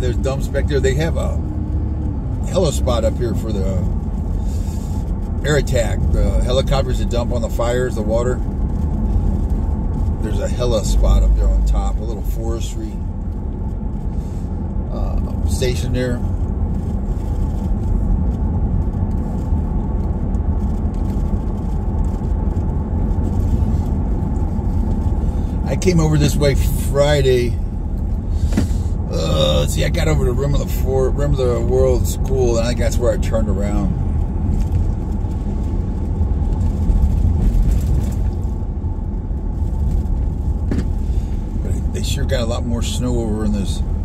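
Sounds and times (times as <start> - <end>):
car interior engine and road rumble: 0.0 - 44.0.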